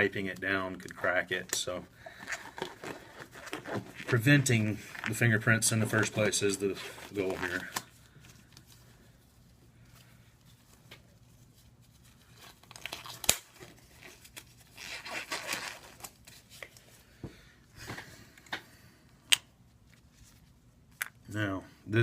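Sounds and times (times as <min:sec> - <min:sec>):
rustling and crinkling: 0:00.1 - 0:17.1, 0:19.6 - 0:21.0.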